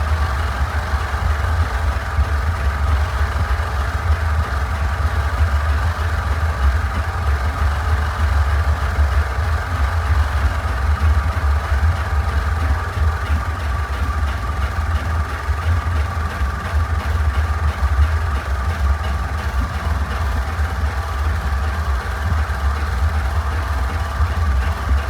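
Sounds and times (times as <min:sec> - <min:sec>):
lawnmower engine running: 0:00.0 - 0:25.0.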